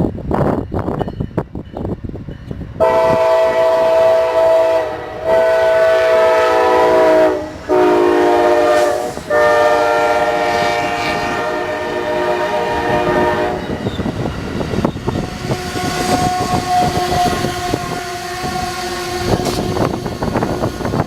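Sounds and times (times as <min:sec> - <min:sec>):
locomotive horn blasts: 0:02.8 - 0:14.1, 0:15.2 - 0:21.0.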